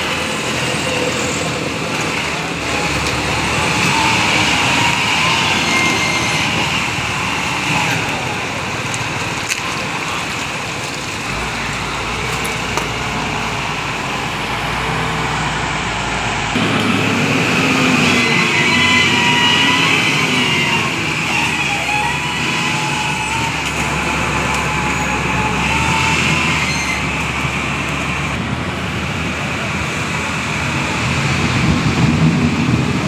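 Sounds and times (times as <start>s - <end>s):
bulldozer engine running: 0.0s - 33.0s.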